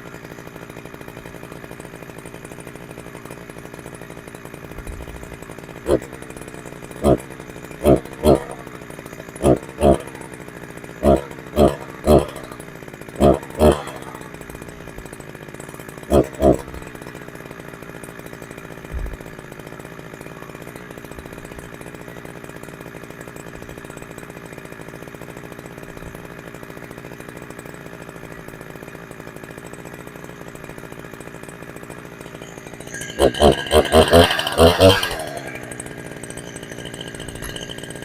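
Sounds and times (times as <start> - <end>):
chainsaw engine idling: 0.0 - 38.0.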